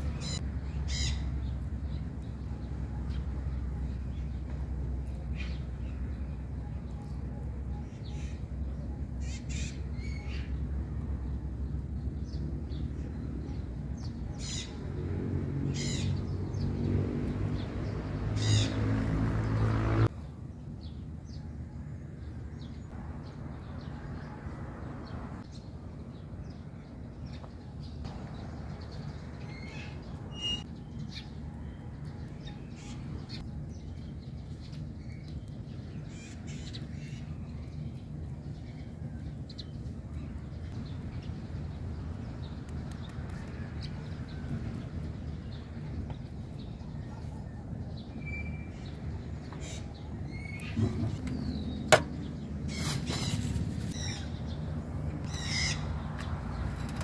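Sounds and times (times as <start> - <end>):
steady low background hum: 0.0 - 18.3, 20.0 - 57.0
birds calling and chirping: 0.0 - 57.0.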